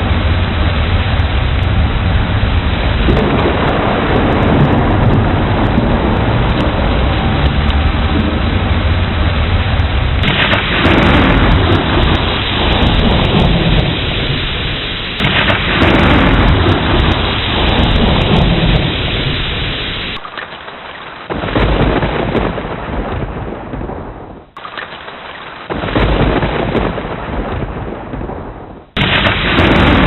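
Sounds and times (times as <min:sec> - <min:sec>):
rolling thunder: 0:00.0 - 0:20.3, 0:21.2 - 0:30.0
heavy rain: 0:00.0 - 0:30.0.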